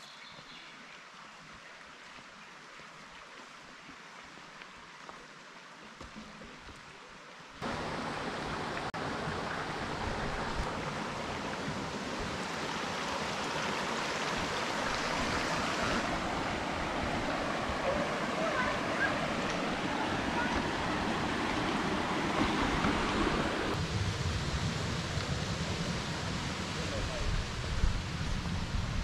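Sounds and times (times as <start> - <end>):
stream rushing over stones: 0.5 - 29.0.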